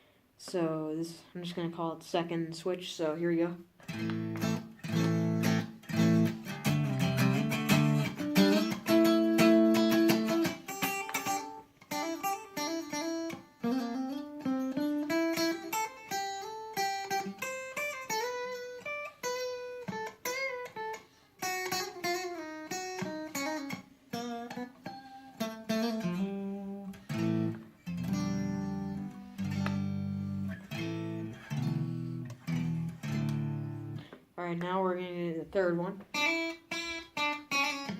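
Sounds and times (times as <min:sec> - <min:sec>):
electric guitar playing: 0:03.8 - 0:34.1, 0:36.1 - 0:37.9.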